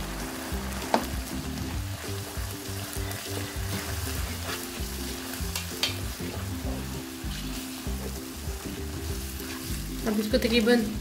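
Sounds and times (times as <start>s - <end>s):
spatula scraping wok: 0.0s - 10.5s
chickpeas sizzling in oil: 0.0s - 11.0s
low background music: 0.0s - 11.0s.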